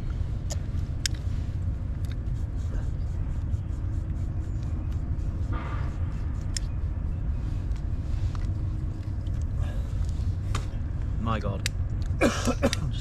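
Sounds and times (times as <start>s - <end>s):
low rumble: 0.0s - 12.2s.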